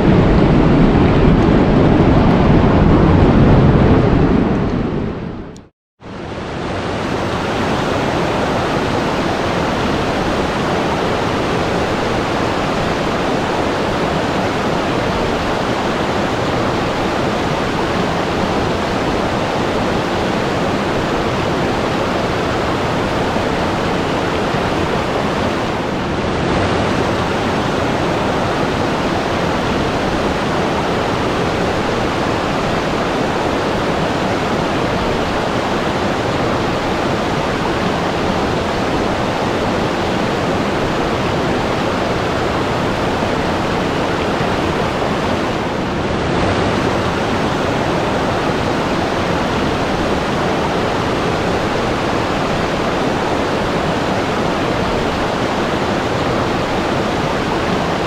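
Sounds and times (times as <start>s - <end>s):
rushing water: 6.0s - 58.0s.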